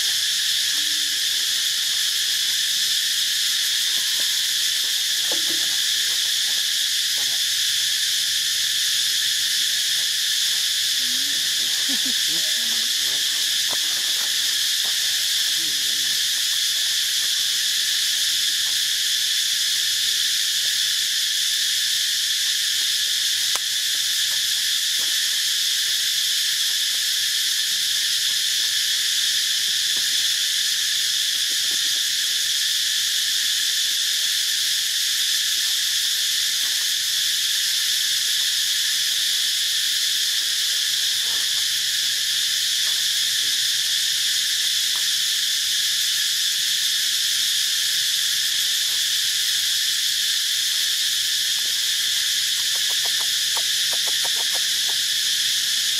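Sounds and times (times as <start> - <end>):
insect chorus shrill drone: 0.0 - 55.9.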